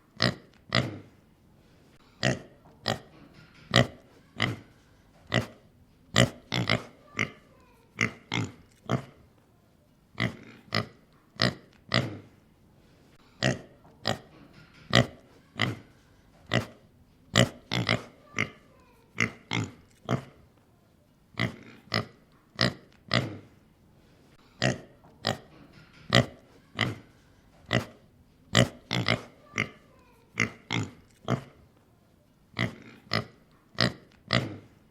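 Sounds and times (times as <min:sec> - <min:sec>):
pig grunting and oinking: 0:00.1 - 0:01.2, 0:02.2 - 0:09.2, 0:10.2 - 0:12.4, 0:13.4 - 0:20.4, 0:21.3 - 0:23.6, 0:24.6 - 0:31.6, 0:32.5 - 0:34.8.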